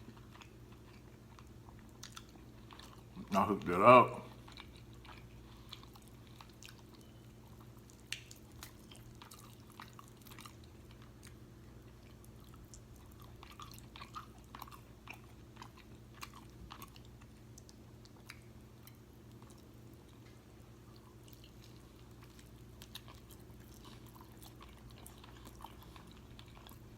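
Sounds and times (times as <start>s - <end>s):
chewing food with mouth sounds: 0.0s - 26.9s.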